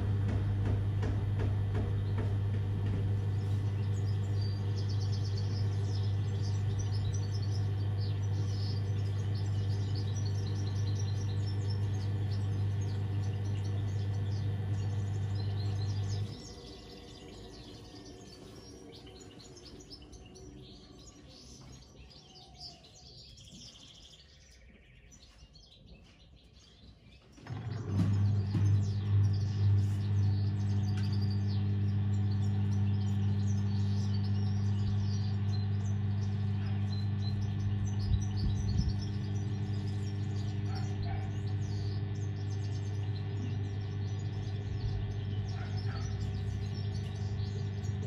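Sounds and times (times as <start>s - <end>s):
washing machine humming: 0.0s - 21.7s, 27.4s - 48.0s
birds chirping: 0.0s - 48.0s.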